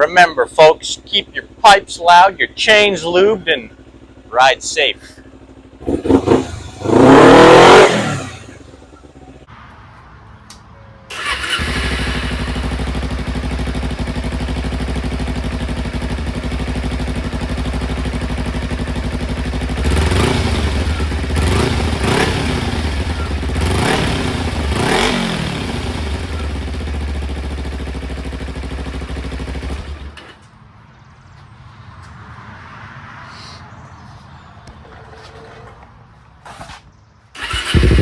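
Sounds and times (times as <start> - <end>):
motorcycle engine idling and revving: 0.0 - 9.6, 11.1 - 32.8, 33.8 - 38.0.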